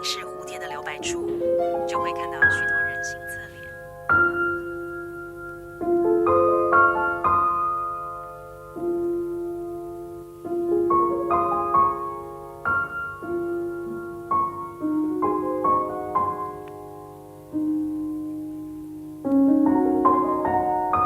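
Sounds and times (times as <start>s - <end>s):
slow solo piano: 1.2s - 21.0s.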